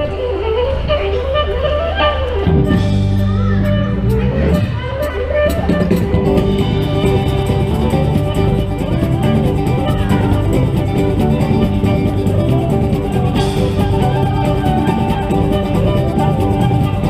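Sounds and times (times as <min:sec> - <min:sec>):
guitar music with bass and beat: 0:02.4 - 0:17.0.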